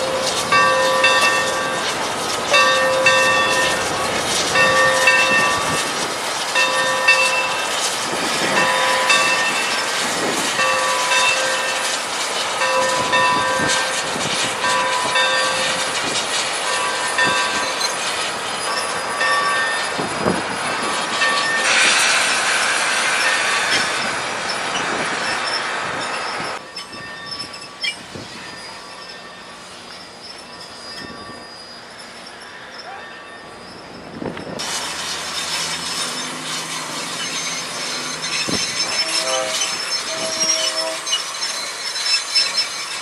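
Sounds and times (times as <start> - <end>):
locomotive bell ringing: 0.0 - 21.9, 22.6 - 34.6, 35.2 - 43.0
steam hissing: 0.0 - 43.0
wheels clicking on rail joints: 0.0 - 43.0.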